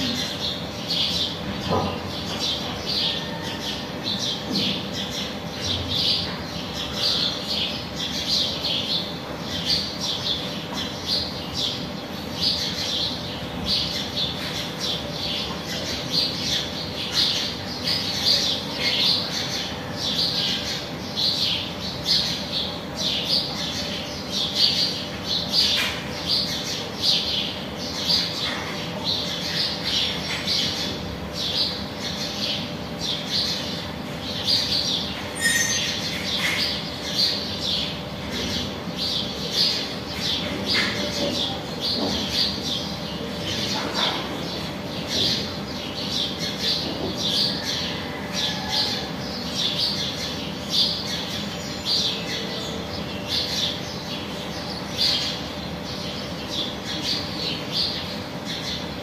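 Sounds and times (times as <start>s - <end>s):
small birds chirping and squawking: 0.0s - 59.0s
steady low hum: 0.0s - 59.0s.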